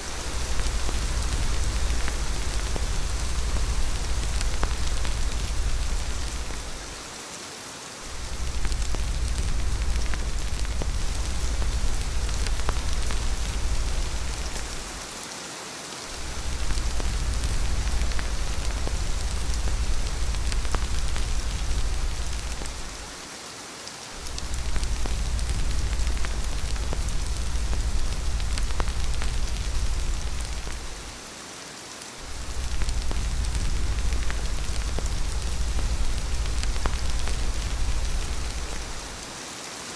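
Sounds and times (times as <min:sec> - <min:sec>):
deep low rumble: 0:00.0 - 0:07.0, 0:08.1 - 0:15.0, 0:16.2 - 0:23.1, 0:24.2 - 0:31.2, 0:32.2 - 0:39.3
steady rain: 0:00.0 - 0:39.9.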